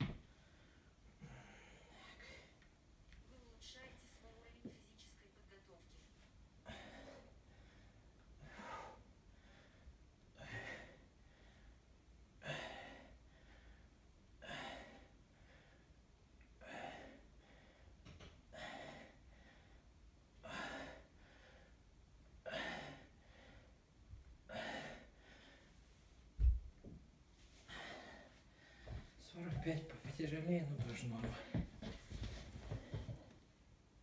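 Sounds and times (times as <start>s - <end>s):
man breathing heavily: 0.0s - 2.7s, 6.6s - 26.0s, 27.4s - 30.1s, 30.8s - 33.6s.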